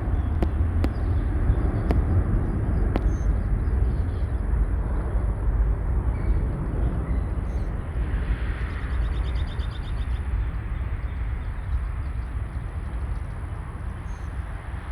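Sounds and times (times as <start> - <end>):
jet engines rumbling: 0.0 - 14.9.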